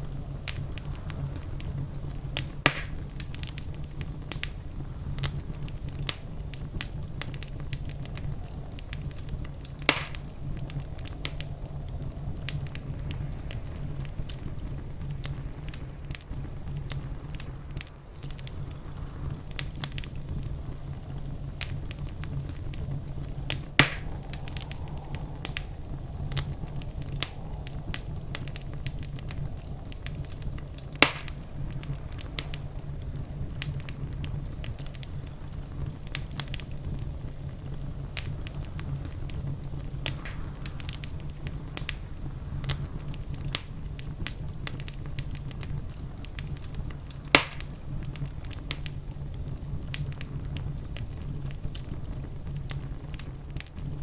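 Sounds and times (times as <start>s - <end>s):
loud fire pops: 0.0s - 54.0s
low fire rumble: 0.0s - 54.0s
wood fire crackling: 0.0s - 54.0s.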